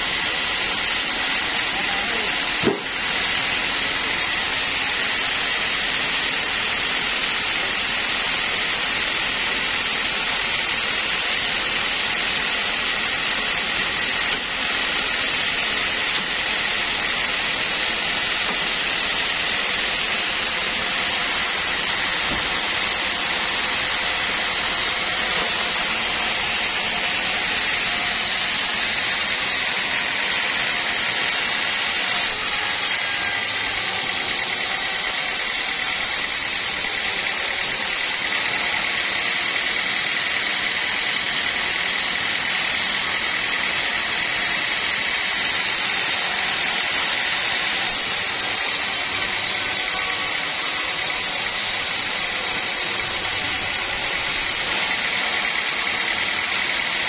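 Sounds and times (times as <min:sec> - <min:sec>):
band sawmill whirring: 0:00.0 - 0:57.0
saw blade cutting log: 0:00.0 - 0:57.0.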